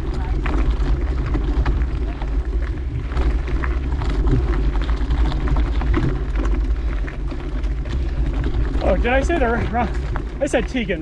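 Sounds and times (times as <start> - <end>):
bike clicks and rattles: 0.0 - 11.0
wind rumbling on microphone: 0.0 - 11.0.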